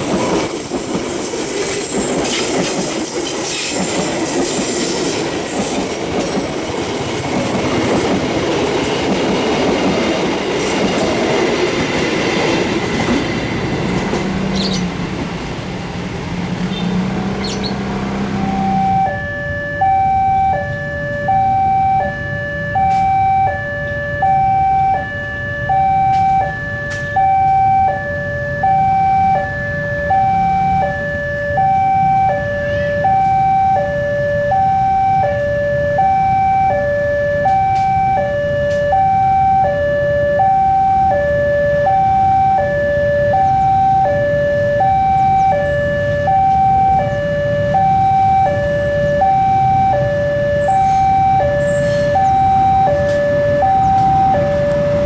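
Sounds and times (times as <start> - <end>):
level crossing two-tone alarm: 0.0 - 13.1, 18.2 - 55.0.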